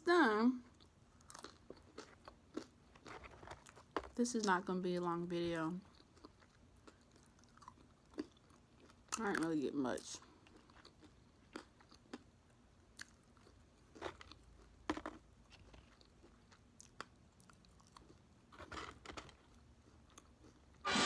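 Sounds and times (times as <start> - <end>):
chewing and mouth sounds: 0.7 - 4.6, 5.8 - 20.8.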